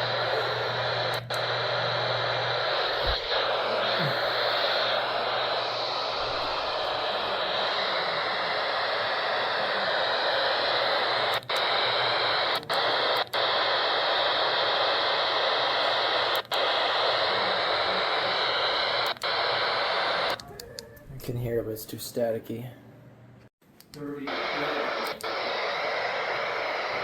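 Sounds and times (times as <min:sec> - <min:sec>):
radio static hiss: 0:00.0 - 0:20.4, 0:24.0 - 0:27.0
faint radio broadcast: 0:00.0 - 0:22.3, 0:24.0 - 0:27.0.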